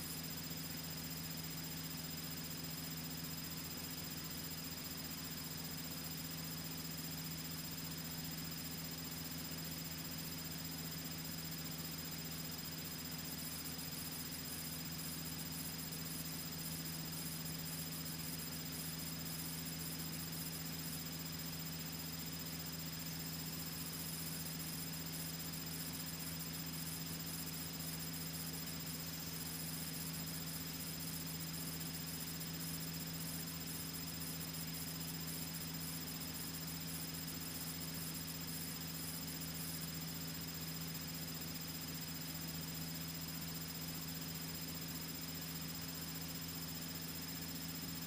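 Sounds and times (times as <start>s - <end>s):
faint high whine: 0.0s - 48.0s.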